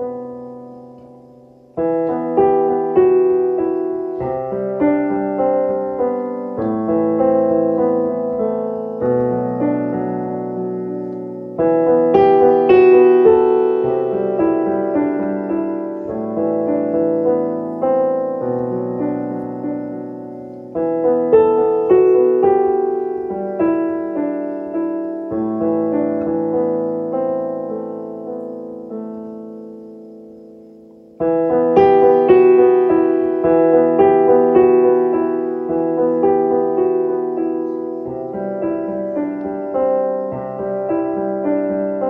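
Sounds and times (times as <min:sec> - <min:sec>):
slow solo piano: 0:00.0 - 0:42.0.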